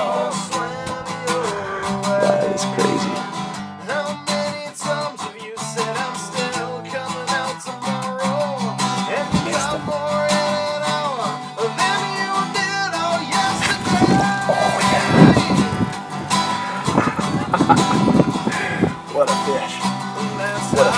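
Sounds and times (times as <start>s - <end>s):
person singing: 0.0s - 7.4s, 8.2s - 20.9s
acoustic guitar strumming: 0.0s - 20.9s.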